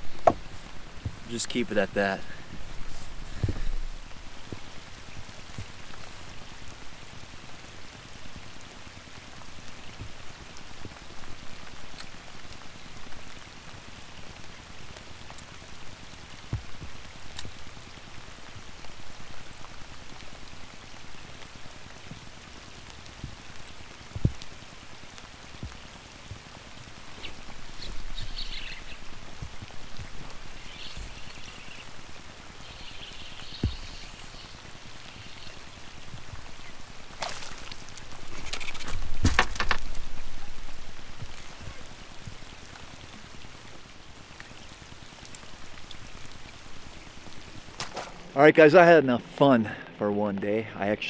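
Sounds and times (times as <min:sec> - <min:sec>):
rain on water and boat: 0:00.0 - 0:51.0.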